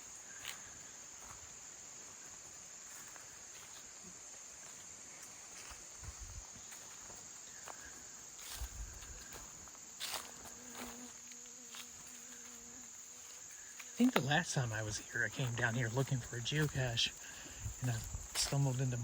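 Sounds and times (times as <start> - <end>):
trilling insects chorus: 0.0 - 19.0.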